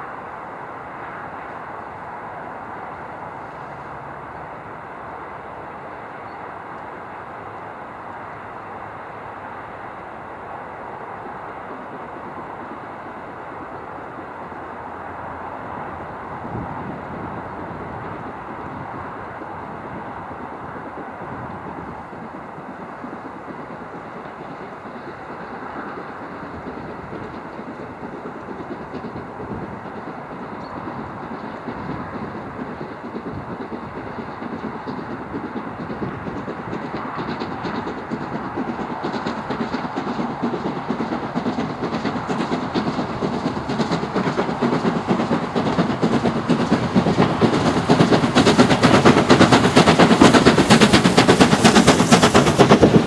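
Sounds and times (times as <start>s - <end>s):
distant steam locomotive roar: 0.0s - 53.0s
motorway traffic noise: 0.0s - 53.0s.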